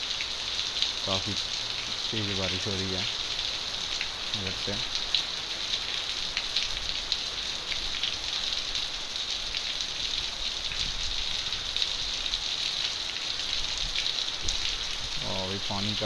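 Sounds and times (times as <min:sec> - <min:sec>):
heavy rain on paving: 0:00.0 - 0:16.0.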